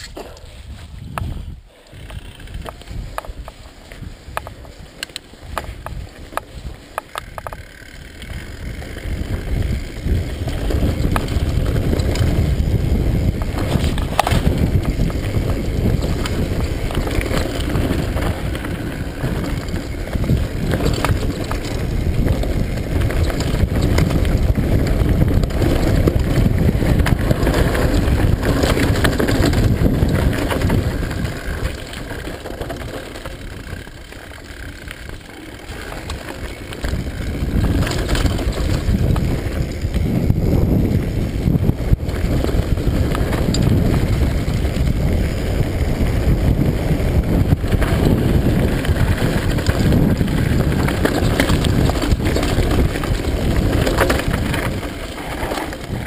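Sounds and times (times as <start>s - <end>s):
wind rumbling on microphone: 0.0s - 56.0s
bike rattling and knocking: 1.1s - 56.0s
tyres crunching over gravel: 2.1s - 56.0s.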